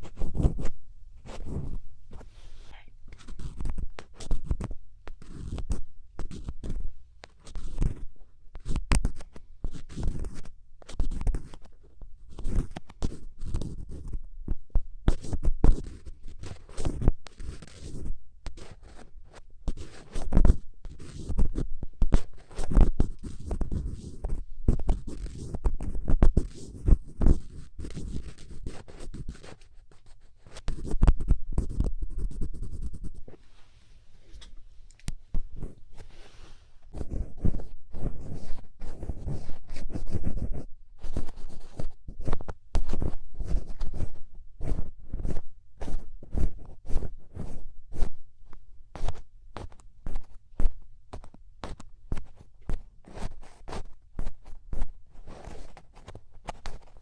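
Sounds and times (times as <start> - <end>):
scratching at microphone: 0.0 - 57.0.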